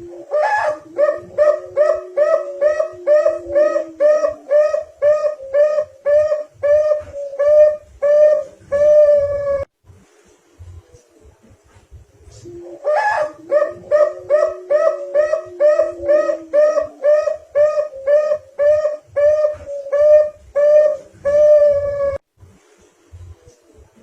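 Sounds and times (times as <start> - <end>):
dove cooing: 0.0 - 9.7, 12.2 - 22.2.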